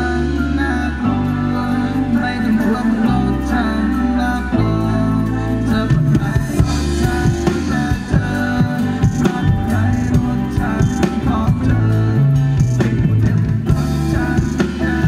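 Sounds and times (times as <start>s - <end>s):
bass guitar: 0.0s - 15.0s
drum kit: 0.0s - 15.0s
electric guitars: 0.0s - 15.0s.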